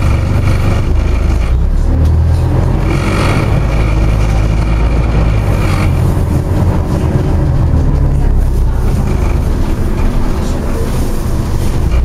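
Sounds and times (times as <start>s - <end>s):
bus diesel engine drone: 0.0s - 12.0s
road and body noise: 0.0s - 12.0s.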